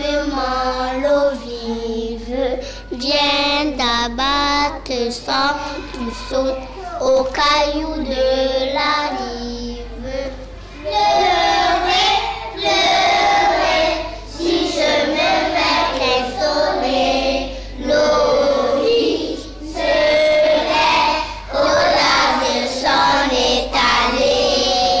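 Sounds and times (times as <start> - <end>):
children singing together: 0.0 - 25.0.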